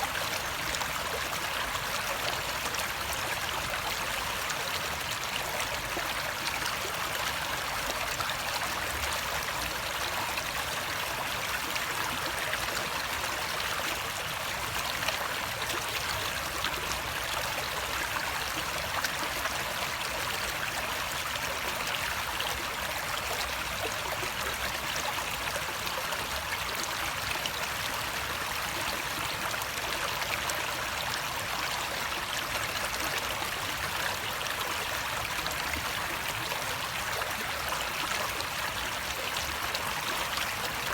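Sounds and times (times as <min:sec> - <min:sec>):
stream trickling and splashing: 0:00.0 - 0:40.9.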